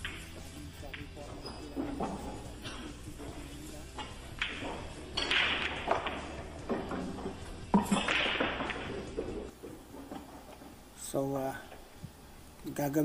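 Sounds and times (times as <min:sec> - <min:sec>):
cue striking ball: 0:00.0 - 0:10.5
pool balls clacking: 0:00.0 - 0:12.2
noisy background: 0:00.0 - 0:13.0.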